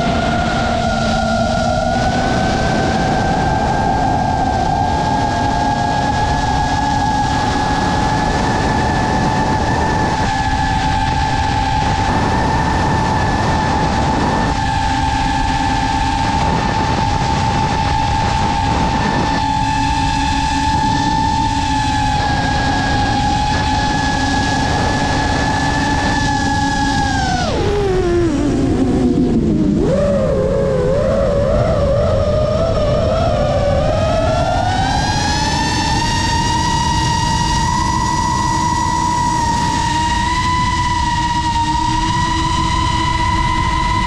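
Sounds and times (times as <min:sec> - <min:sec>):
drone motors whining: 0:00.0 - 0:44.0
propeller wash and wind: 0:00.0 - 0:44.0.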